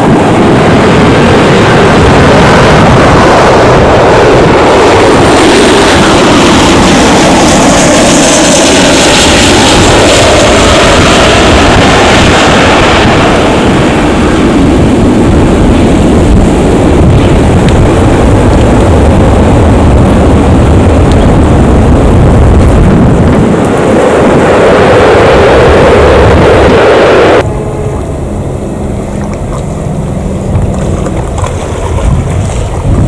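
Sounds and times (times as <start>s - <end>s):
jet engines roaring: 0.0s - 33.0s
wind buffeting microphone: 0.0s - 33.0s.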